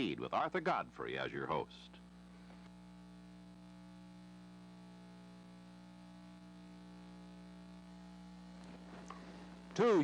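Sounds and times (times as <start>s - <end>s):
mains hum: 0.0s - 10.0s.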